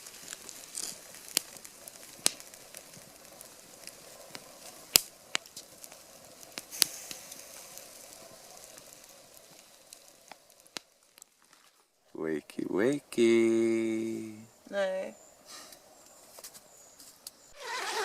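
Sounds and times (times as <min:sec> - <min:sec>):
campfire crackling: 0:00.0 - 0:18.0
faint hiss: 0:00.0 - 0:18.0.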